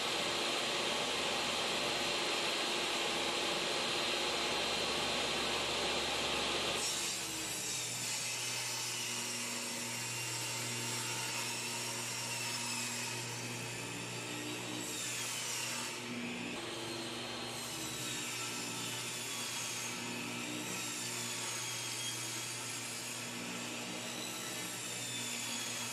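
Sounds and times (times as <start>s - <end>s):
table saw cutting plywood: 0.0s - 25.9s.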